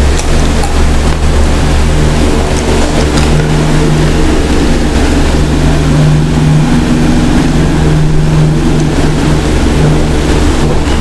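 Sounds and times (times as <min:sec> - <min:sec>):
loud droning hum with low buzz: 0:00.0 - 0:11.0.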